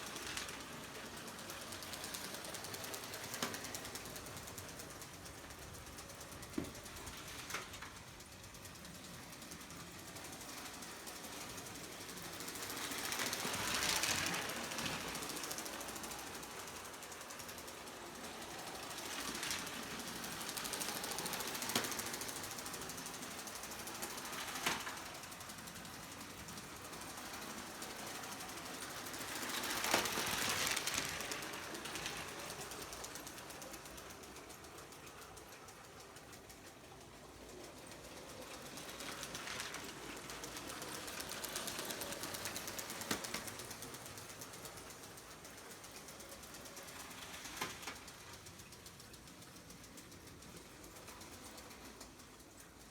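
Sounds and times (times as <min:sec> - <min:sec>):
toy train rattling: 0:00.0 - 0:52.9.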